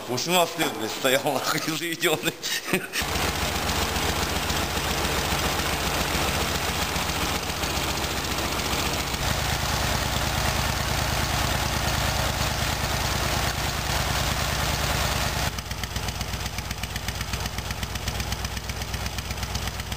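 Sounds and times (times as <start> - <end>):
motorcycle engine idling: 3.0 - 19.9.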